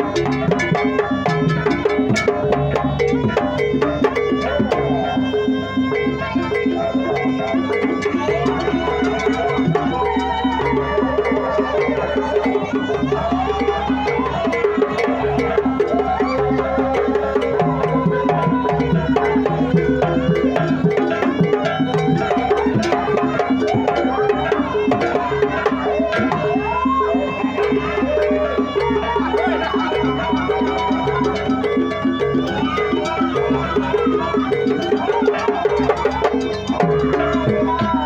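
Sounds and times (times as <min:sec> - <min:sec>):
drums and percussion strokes: 0:00.0 - 0:38.0
traditional ensemble playing: 0:00.0 - 0:38.0.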